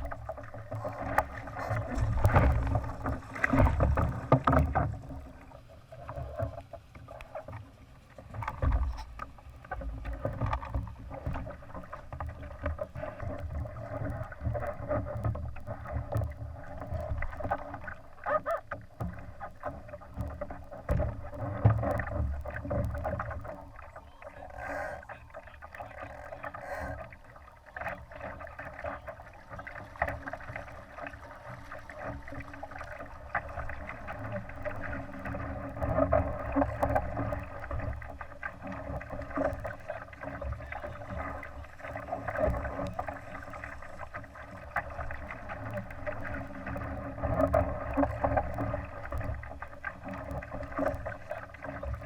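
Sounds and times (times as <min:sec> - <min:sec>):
boat knocks: 0:00.0 - 0:52.0
water splashes: 0:00.0 - 0:52.0.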